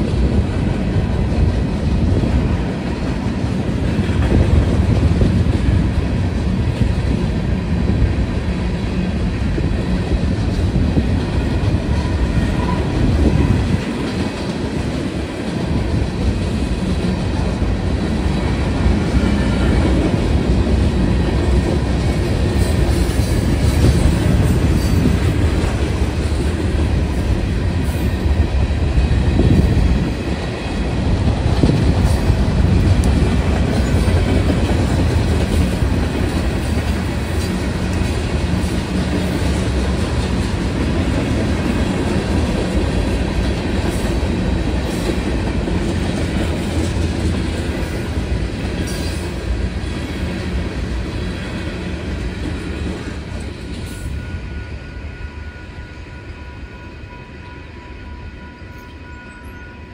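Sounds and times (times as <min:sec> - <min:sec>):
freight cars rolling on rails: 0:00.0 - 0:54.8.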